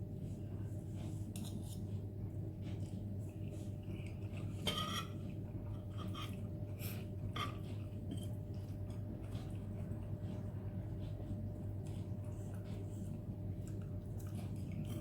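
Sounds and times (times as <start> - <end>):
steady low hum: 0.0 - 15.0
person chewing and slurping noodles: 2.6 - 15.0.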